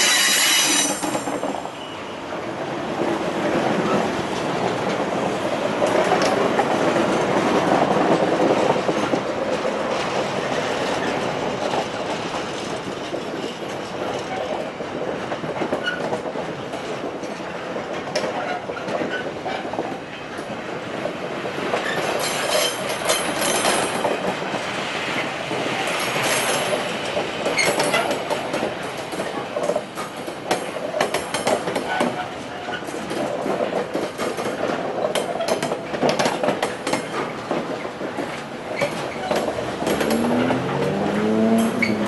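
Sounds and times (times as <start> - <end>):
train wheels rumbling on rail: 0.0 - 42.0
wheels clattering over rail joints: 3.0 - 24.6, 25.5 - 42.0.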